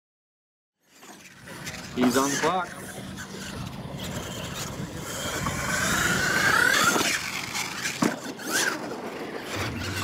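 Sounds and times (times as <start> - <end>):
rc motor whine: 0.8 - 10.0
tyres on dirt: 0.8 - 10.0.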